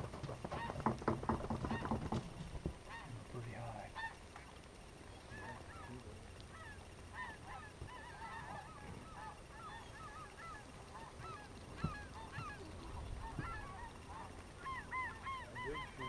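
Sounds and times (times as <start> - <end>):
geese calling: 0.2 - 16.0.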